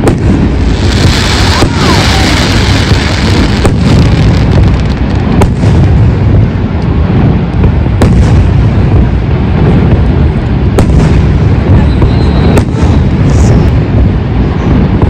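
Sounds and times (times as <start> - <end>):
sharp firework cracks: 0.0 - 13.8
fireworks booming: 0.0 - 15.0.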